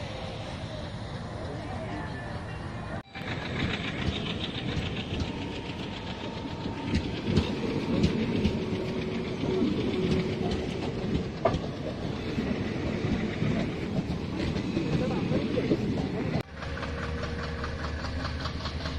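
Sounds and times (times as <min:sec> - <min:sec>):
train coaches rumbling: 0:00.0 - 0:18.9
train wheels clacking: 0:03.1 - 0:18.9.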